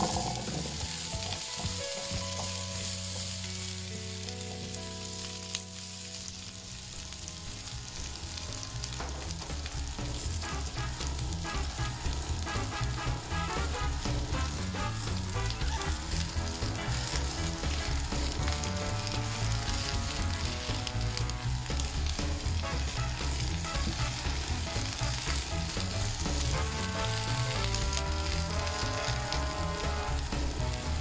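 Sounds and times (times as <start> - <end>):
spatula stirring in skillet: 0.0 - 6.4, 7.0 - 31.0
background music: 0.0 - 31.0
vegetables sizzling in oil: 0.0 - 31.0.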